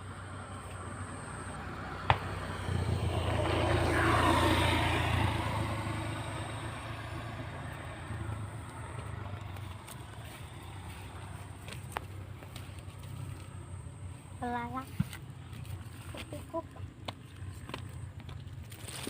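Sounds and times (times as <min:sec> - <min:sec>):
motor vehicle passing: 0:00.0 - 0:19.0.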